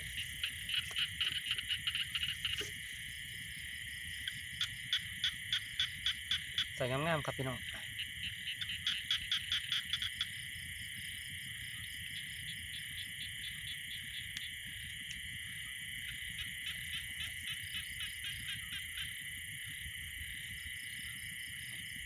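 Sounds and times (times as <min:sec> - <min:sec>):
frogs rapid pulsed calls: 0:00.0 - 0:22.0
insects trilling: 0:00.0 - 0:22.0.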